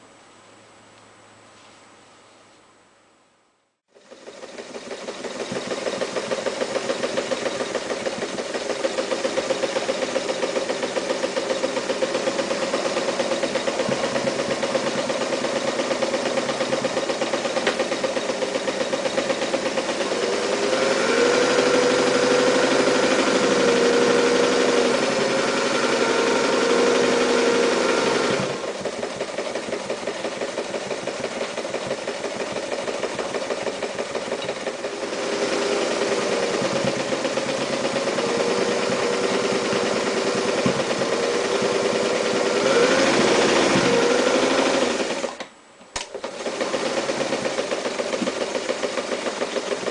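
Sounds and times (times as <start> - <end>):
sewing machine stitching: 3.9 - 49.9.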